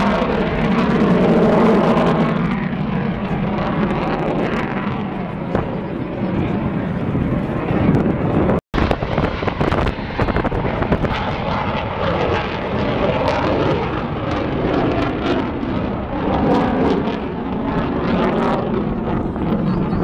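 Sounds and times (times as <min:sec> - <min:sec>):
jet flying overhead: 0:00.0 - 0:20.0.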